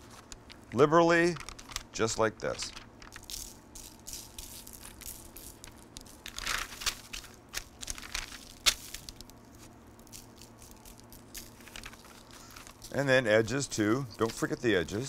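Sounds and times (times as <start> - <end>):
paper crinkling and rustling: 1.1 - 13.2, 13.8 - 15.0.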